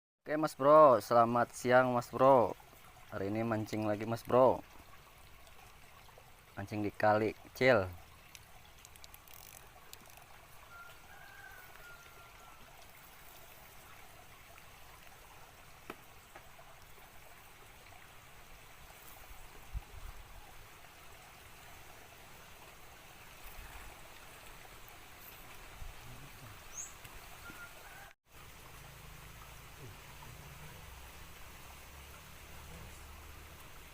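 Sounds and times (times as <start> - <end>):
creek running water: 0.2 - 33.9.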